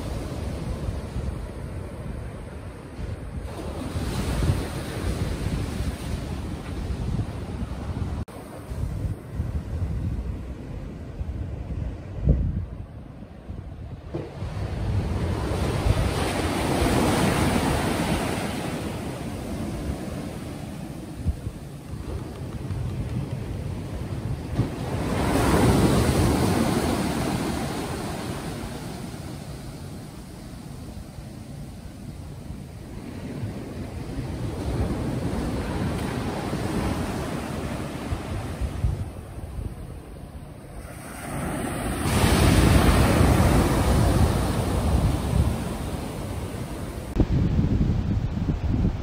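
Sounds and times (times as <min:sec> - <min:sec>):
wave breaking and washing: 0:00.0 - 0:49.0
wind buffeting microphone: 0:00.0 - 0:49.0.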